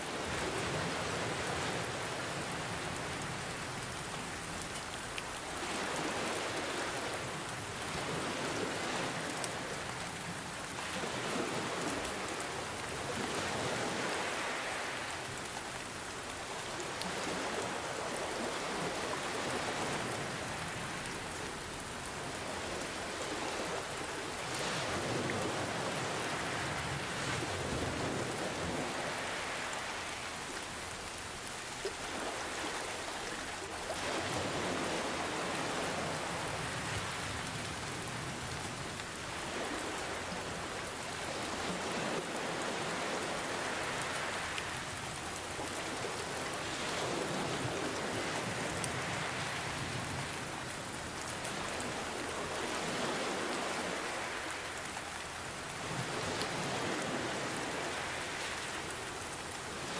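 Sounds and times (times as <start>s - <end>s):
ocean waves: 0.0s - 59.9s
rain falling: 0.0s - 59.9s.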